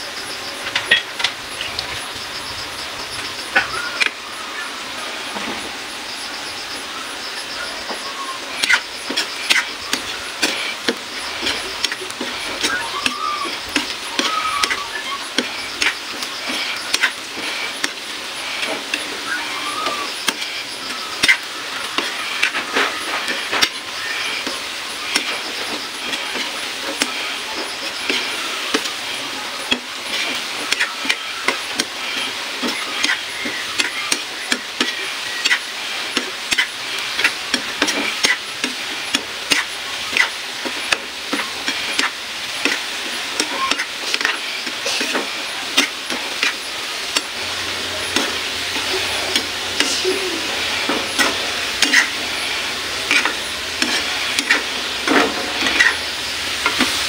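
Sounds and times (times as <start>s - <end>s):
food sizzling in oil: 0.0s - 57.0s
spatula scraping a wok: 8.5s - 19.3s, 20.0s - 57.0s.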